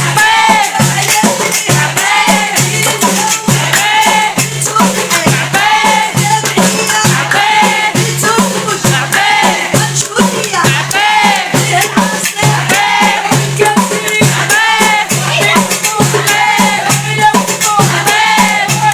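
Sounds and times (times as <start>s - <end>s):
steady percussion beat: 0.0s - 18.9s
woman singing: 0.0s - 18.9s.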